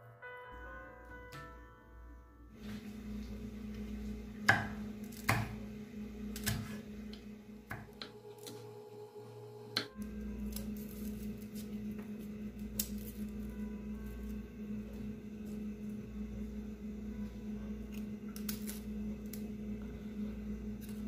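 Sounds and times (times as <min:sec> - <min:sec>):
steady low hum: 0:00.6 - 0:21.0.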